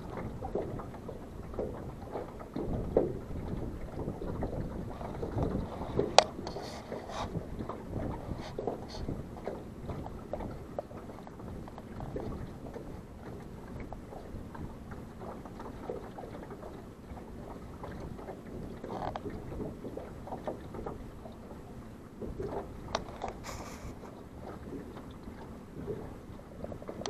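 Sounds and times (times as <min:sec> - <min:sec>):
waves lapping against boat hull: 0:00.0 - 0:27.0
wind rumble on microphone: 0:00.0 - 0:27.0.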